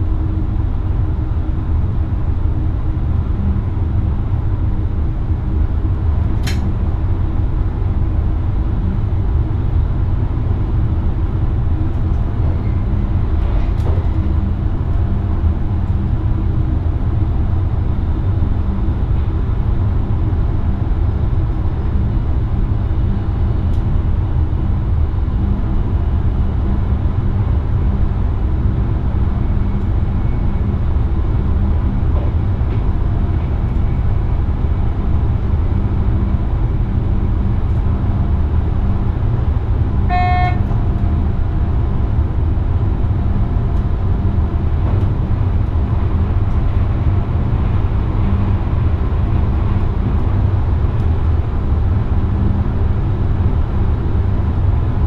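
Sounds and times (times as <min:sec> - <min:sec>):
faint constant hum: 0:00.0 - 0:55.0
train wheels rumbling on rails: 0:00.0 - 0:55.0.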